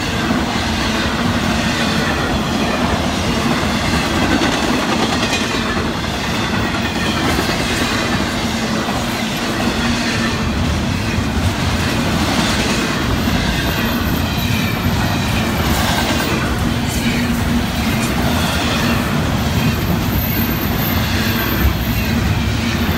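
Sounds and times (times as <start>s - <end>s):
freight train rolling past: 0.0s - 22.9s.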